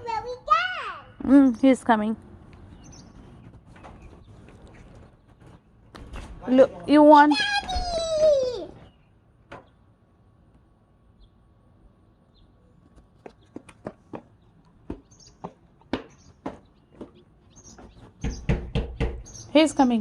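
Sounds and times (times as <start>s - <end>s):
small birds chirping: 0.0s - 10.0s, 11.0s - 20.0s.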